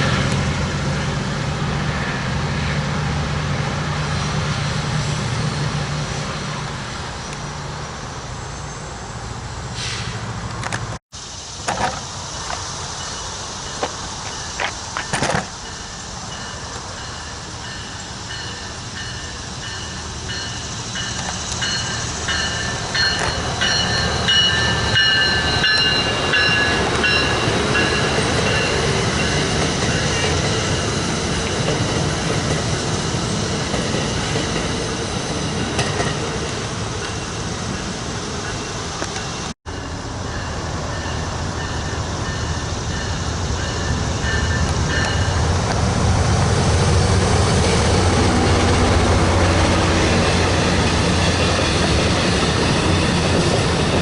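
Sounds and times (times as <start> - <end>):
train rumbling past on rails: 0.0 - 54.0.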